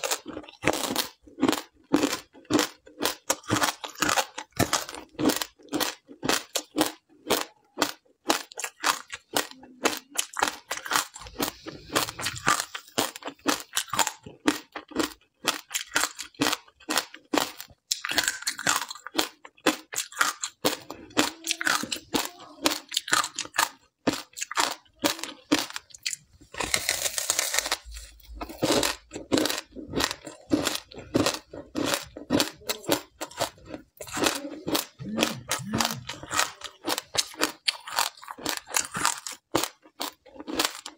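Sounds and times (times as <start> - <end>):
chewing crunchy ice sheet: 0.0 - 40.9.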